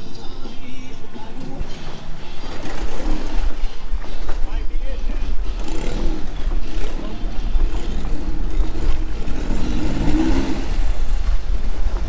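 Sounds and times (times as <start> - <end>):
boat engine rumbling: 0.0 - 12.0
rushing water noise: 1.0 - 12.0.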